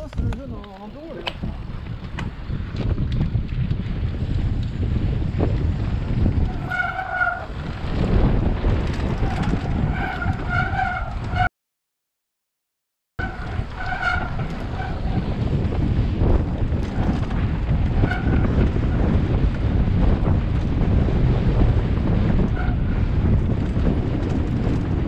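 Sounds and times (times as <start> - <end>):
bike tyres rattling over ground: 0.0 - 11.5, 13.2 - 25.0
wind rumble on microphone: 0.0 - 11.5, 13.2 - 25.0.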